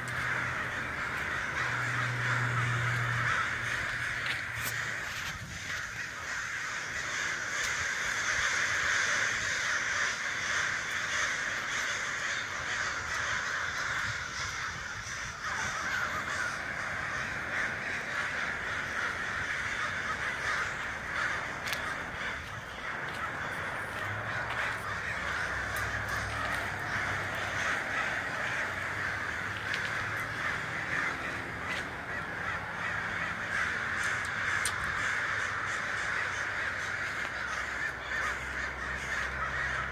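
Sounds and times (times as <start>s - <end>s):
flock of crows cawing: 0.0s - 39.9s.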